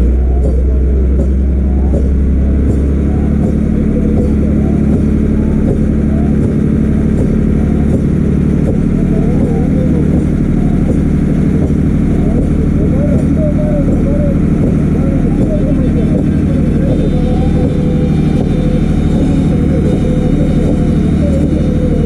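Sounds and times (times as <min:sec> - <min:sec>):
motorboat engine running: 0:00.0 - 0:22.0
voices calling faintly: 0:00.0 - 0:22.0.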